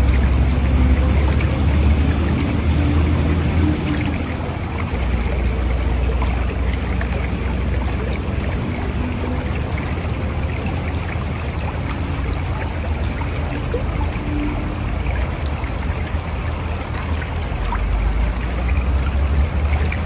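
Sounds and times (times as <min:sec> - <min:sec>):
river rushing and gurgling: 0:00.0 - 0:20.0.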